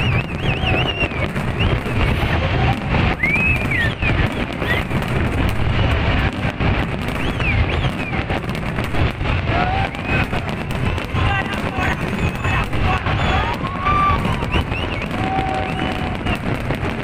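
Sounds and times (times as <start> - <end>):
fireworks booming and crackling: 0.0 - 17.0
fireworks whistles: 0.0 - 17.0.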